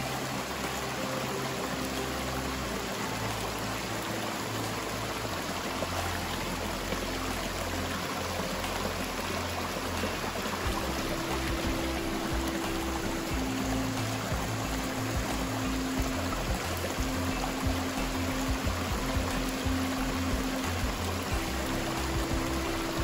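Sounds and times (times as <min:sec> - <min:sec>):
water rushing over weir and rocks: 0:00.0 - 0:23.0.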